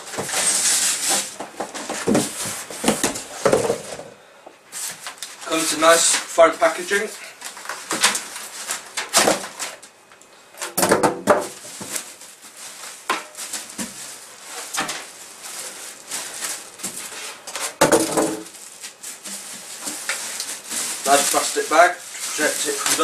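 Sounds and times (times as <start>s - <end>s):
foam and plastic rustling: 0.0s - 9.9s, 11.3s - 23.0s.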